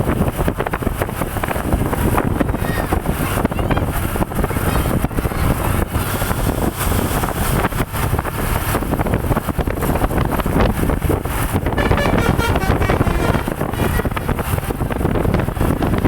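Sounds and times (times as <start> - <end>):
bus engine and road noise: 0.0 - 16.0
wind buffeting microphone: 0.0 - 16.0.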